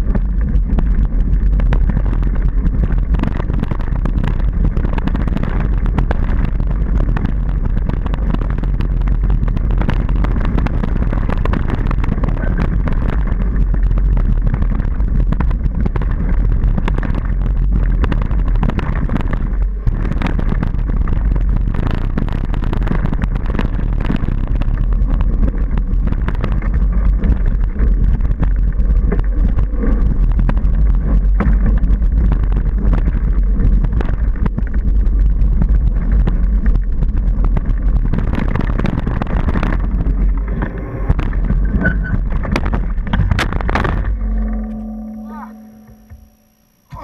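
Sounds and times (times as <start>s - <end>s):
mountain bike rattling on gravel: 0.0s - 44.4s
wind on microphone: 0.0s - 47.0s.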